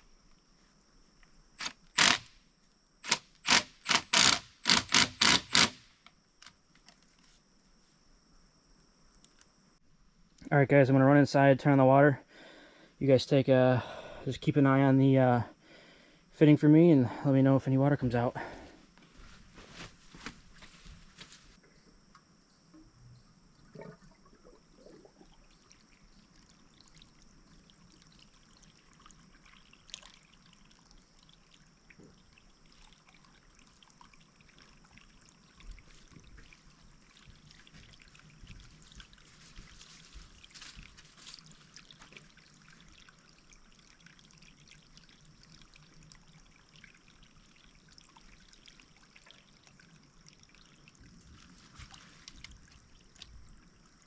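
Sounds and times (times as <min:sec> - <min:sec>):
faint trickle of running water: 0:10.2 - 0:54.0.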